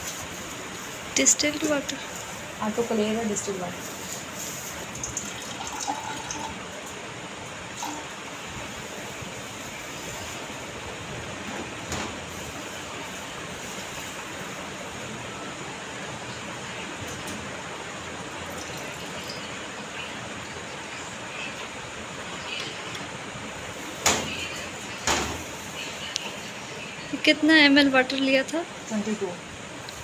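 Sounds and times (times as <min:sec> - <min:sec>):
blower fan rushing air: 0:00.0 - 0:30.0.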